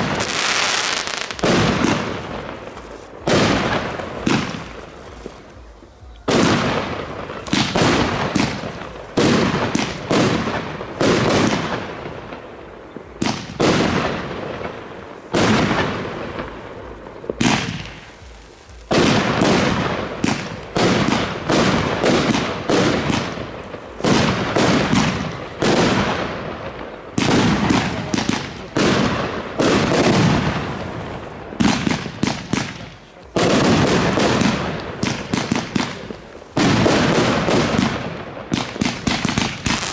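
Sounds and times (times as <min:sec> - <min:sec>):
fireworks banging: 0:00.0 - 0:39.9.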